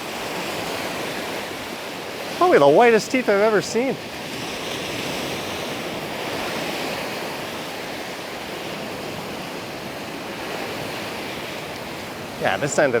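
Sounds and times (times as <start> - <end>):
small waves washing onto sand: 0.0 - 13.0.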